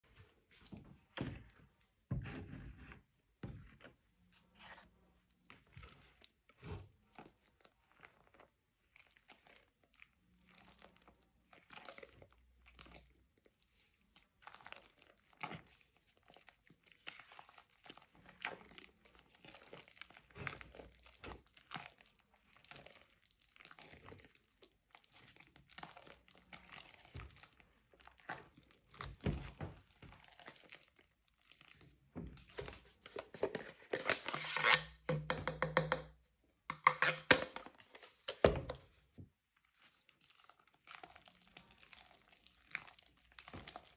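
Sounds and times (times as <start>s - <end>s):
soft paste mixing sounds: 0.0s - 43.9s.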